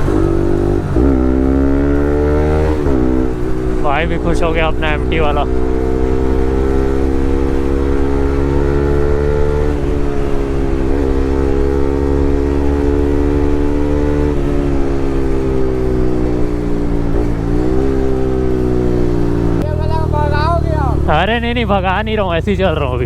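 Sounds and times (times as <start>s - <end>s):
motorcycle engine through loud exhaust: 0.0s - 23.0s.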